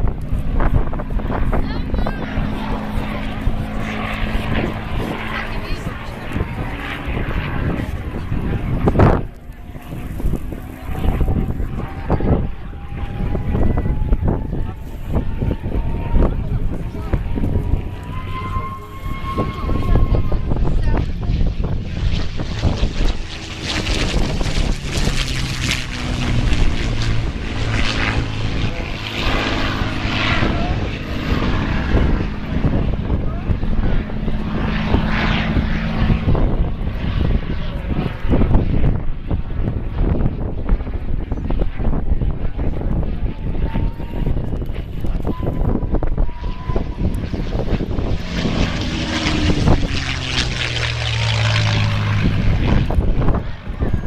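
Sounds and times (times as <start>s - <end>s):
aircraft piston engine droning: 0.0s - 54.0s
propeller plane flying past: 0.0s - 54.0s
wind buffeting microphone: 0.0s - 54.0s.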